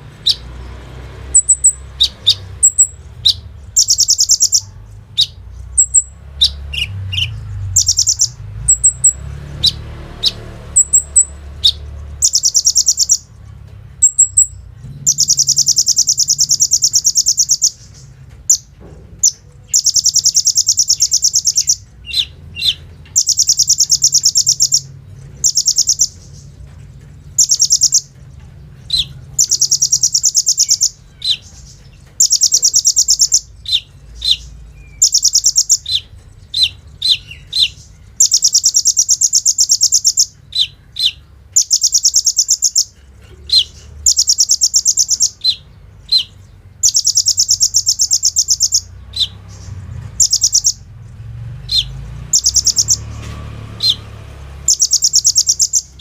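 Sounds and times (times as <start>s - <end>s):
sharp bird chips: 0.0s - 56.0s
sunbird rattling trills: 1.2s - 50.9s, 51.6s - 56.0s.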